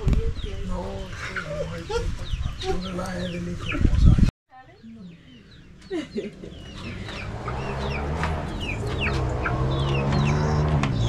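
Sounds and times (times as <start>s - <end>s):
chickens clucking: 0.0s - 4.3s, 5.2s - 11.0s.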